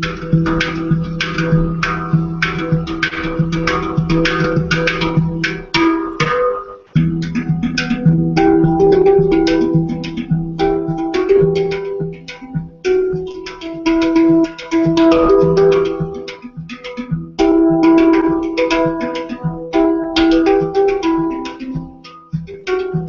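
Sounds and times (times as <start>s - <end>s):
handpan notes ringing: 0.0s - 23.0s.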